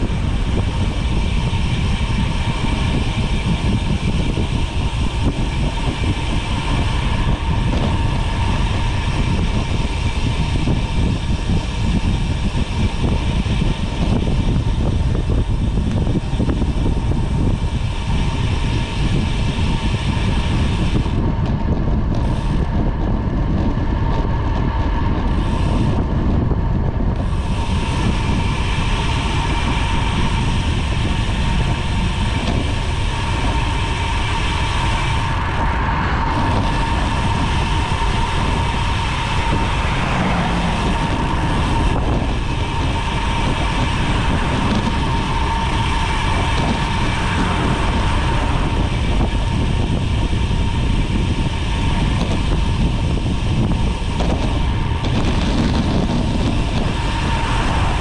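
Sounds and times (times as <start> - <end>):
bicycle tyre noise: 0.0 - 58.0
wind rushing over microphone: 0.0 - 58.0.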